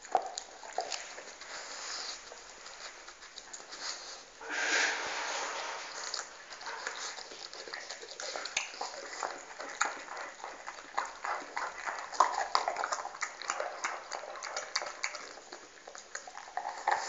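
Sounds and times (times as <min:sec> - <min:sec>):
dog crunching a bone: 0:00.0 - 0:04.1, 0:06.1 - 0:17.0.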